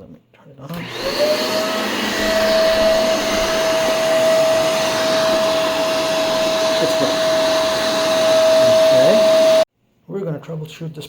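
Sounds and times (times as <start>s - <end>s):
vacuum cleaner motor whine: 0.7s - 9.7s.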